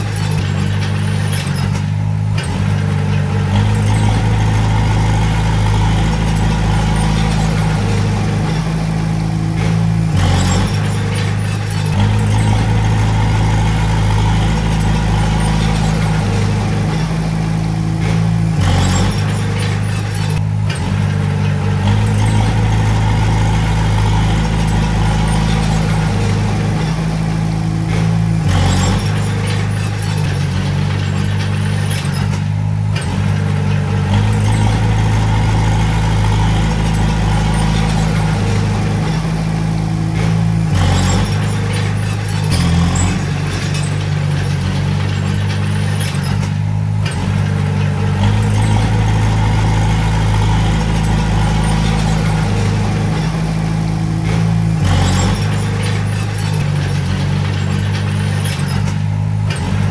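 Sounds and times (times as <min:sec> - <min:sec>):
bulldozer diesel engine running: 0:00.0 - 0:59.9
engine knocking: 0:00.0 - 0:59.9.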